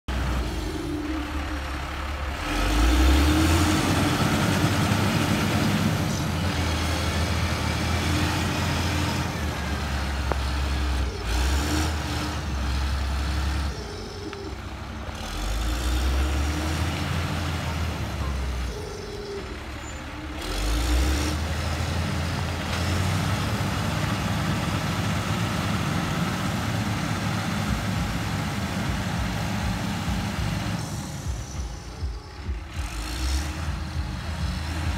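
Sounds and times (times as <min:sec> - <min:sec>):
diesel engine under load: 0:00.0 - 0:34.9.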